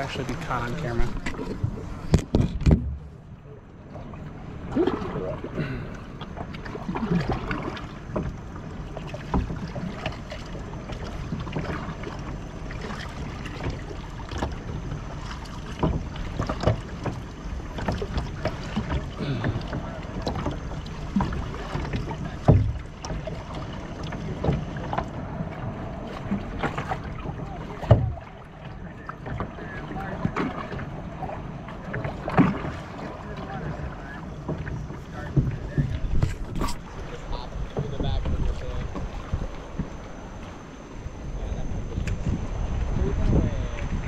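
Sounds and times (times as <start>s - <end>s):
paddle splashing in water: 0.0s - 44.0s.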